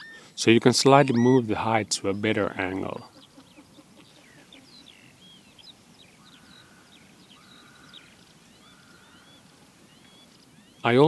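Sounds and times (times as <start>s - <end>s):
birds whistling and chirping: 0.0s - 11.0s
buzzy bird notes: 0.0s - 11.0s
low background hiss: 0.0s - 11.0s.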